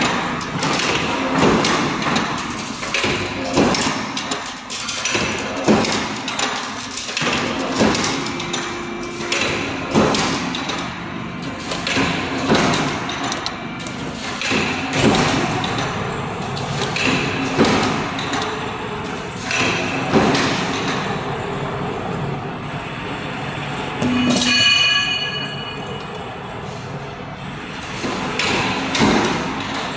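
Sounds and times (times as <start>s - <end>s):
roll forming machine running: 0.0s - 29.9s.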